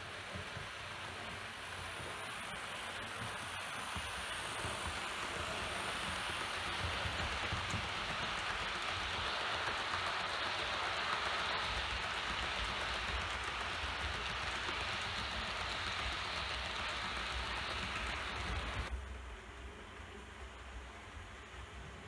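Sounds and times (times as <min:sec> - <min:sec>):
model train rolling: 0:00.0 - 0:22.0.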